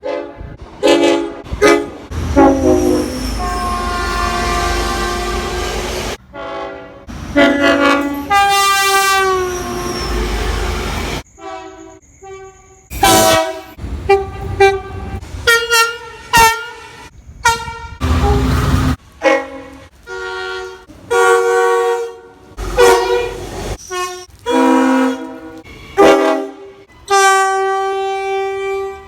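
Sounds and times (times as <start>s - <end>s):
locomotive air horn blasts: 0.0s - 29.0s.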